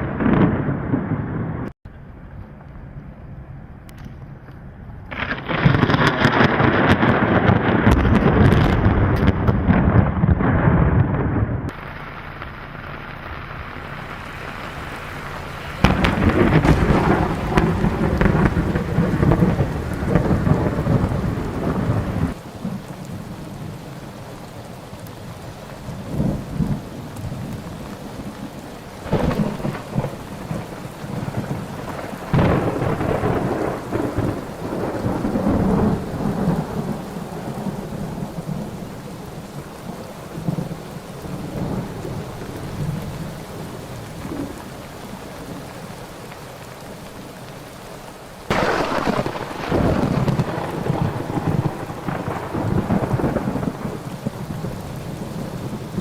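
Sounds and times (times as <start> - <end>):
steady rain: 0.0 - 1.8, 2.4 - 56.0
thunder rumbling: 0.0 - 1.8, 4.8 - 47.6, 48.4 - 56.0.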